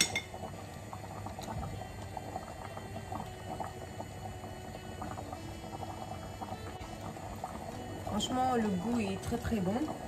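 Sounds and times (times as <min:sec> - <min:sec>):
sauce bubbling and popping: 0:00.0 - 0:10.0.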